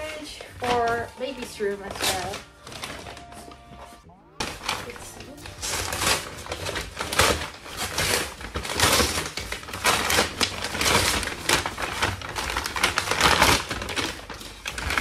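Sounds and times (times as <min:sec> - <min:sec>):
paper bag tearing and crumpling: 0:00.0 - 0:15.0.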